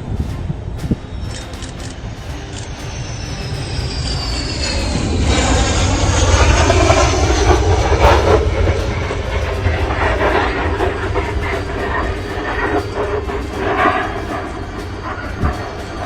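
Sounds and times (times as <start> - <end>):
jet engine whine falling in pitch: 0.0 - 16.0
jet grinding along runway: 0.0 - 16.0.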